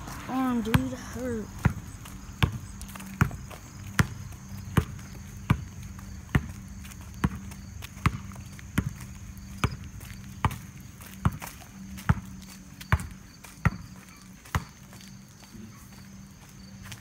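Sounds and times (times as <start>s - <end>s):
footsteps on asphalt: 0.0s - 17.0s.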